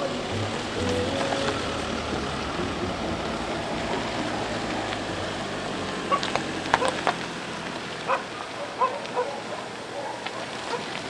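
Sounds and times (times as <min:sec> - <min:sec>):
car engine hum: 0:00.0 - 0:11.0
tyres crunching on dirt: 0:00.0 - 0:11.0.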